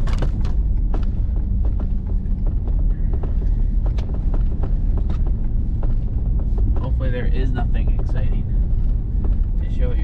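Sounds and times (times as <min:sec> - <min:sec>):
knocks and rattles in cab: 0:00.0 - 0:10.0
truck engine and road rumble: 0:00.0 - 0:10.0.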